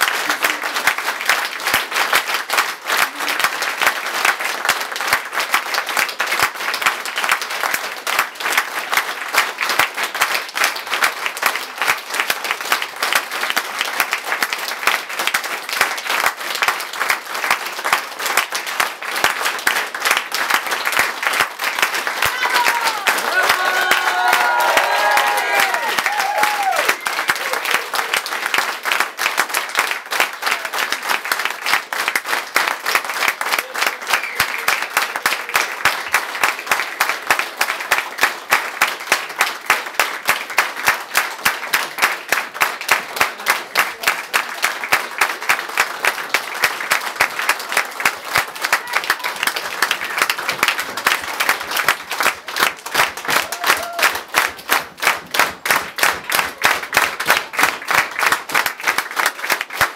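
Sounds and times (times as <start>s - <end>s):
audience clapping in unison: 0.0s - 59.9s.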